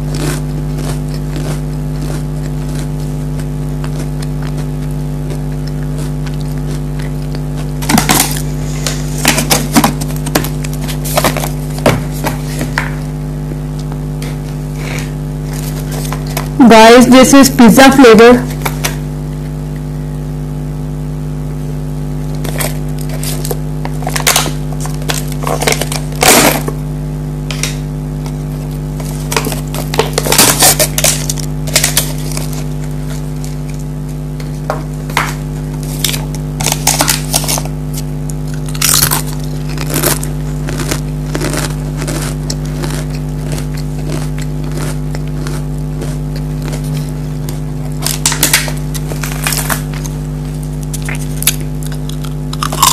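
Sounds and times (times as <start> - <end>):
crisps being crunched: 0.0 - 13.0, 22.3 - 26.8, 27.5 - 52.9
steady low hum: 0.0 - 52.9.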